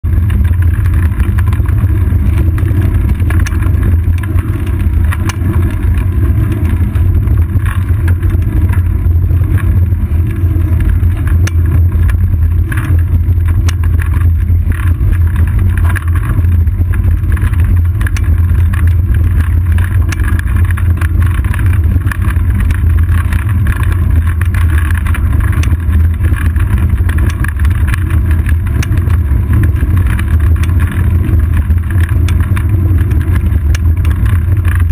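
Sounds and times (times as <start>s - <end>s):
low rumble of wind: 0.0s - 34.9s
road vibration: 0.0s - 34.9s
small rattling clicks: 0.1s - 34.9s.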